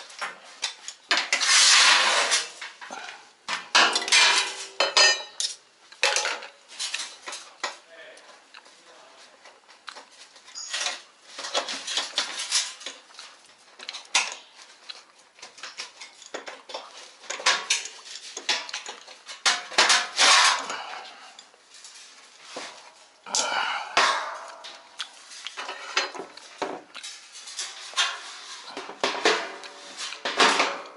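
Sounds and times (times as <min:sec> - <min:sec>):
metal parts and tools clattering: 0:00.0 - 0:07.8, 0:10.4 - 0:14.8, 0:15.4 - 0:30.9.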